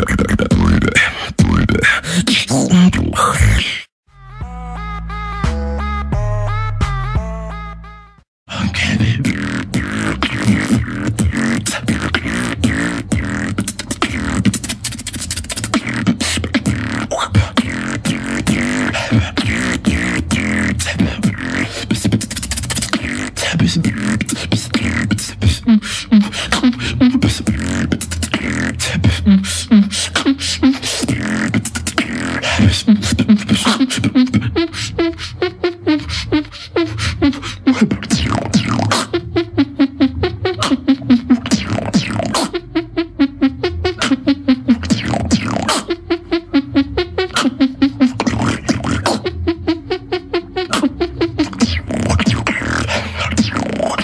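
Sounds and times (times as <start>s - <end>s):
beatboxing kick and snare clicks: 8.8s - 42.7s, 43.3s - 54.0s
buzzing lip-roll bass: 8.8s - 54.0s.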